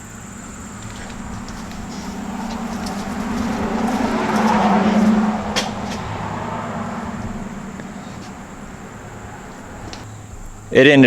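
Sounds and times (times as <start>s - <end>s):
car engine running at low speed: 0.0s - 10.8s.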